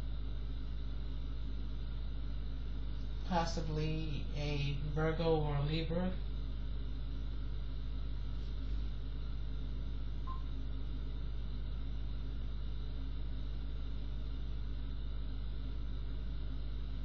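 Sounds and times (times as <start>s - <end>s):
low background hum with hiss: 0.0s - 17.0s.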